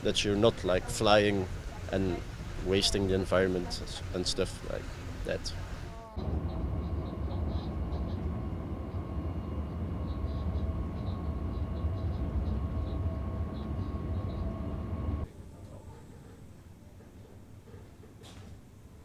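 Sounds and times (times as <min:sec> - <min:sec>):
faint steady whine: 0:00.0 - 0:15.3
train rumbling on rails: 0:00.0 - 0:15.3.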